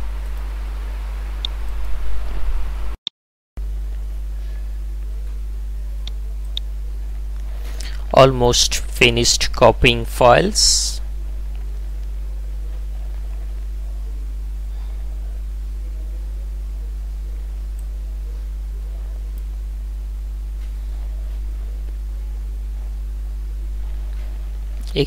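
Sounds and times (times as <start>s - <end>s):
low electrical hum: 0.0s - 3.0s, 3.6s - 25.0s.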